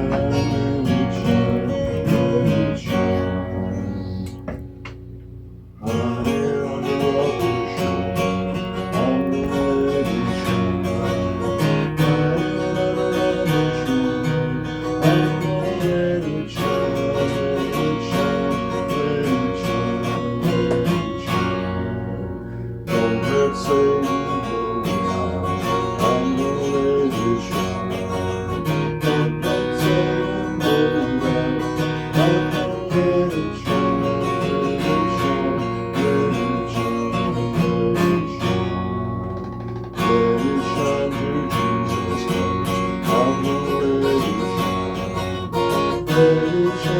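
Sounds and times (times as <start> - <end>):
acoustic guitar strumming chords: 0.0 - 46.9.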